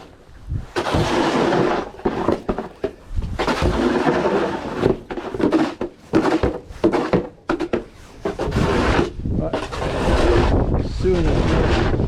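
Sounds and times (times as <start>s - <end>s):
snow shovel scraping: 0.7s - 2.7s, 3.3s - 12.0s.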